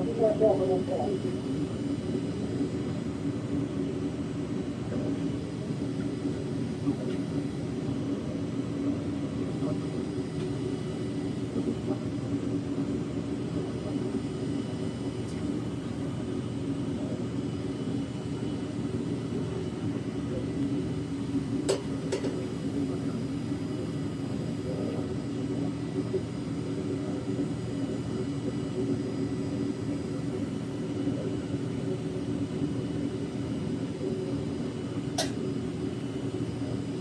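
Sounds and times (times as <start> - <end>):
furnace burner low rumble: 0.0 - 37.0.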